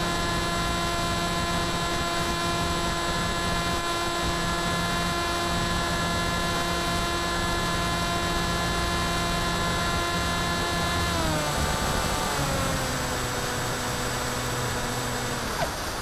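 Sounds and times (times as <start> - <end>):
electric motor propeller whine: 0.0 - 16.0.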